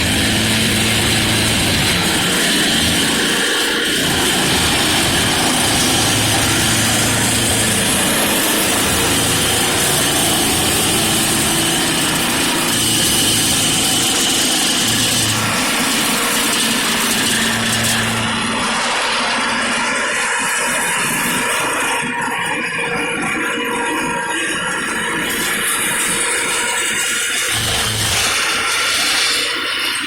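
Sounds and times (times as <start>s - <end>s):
machine engine running: 0.0s - 30.0s.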